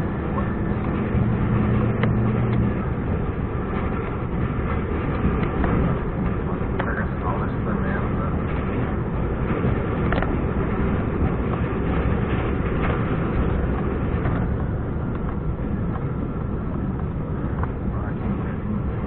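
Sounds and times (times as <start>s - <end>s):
road and drivetrain noise: 0.0s - 19.0s
truck diesel engine running: 0.0s - 19.0s.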